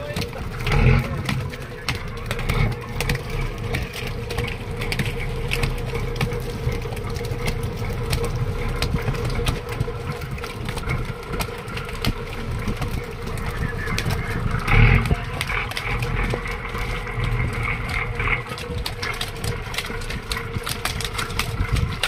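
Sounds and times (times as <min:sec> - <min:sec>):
boat engine running: 0:00.0 - 0:22.0
fish flapping on deck: 0:00.0 - 0:22.0.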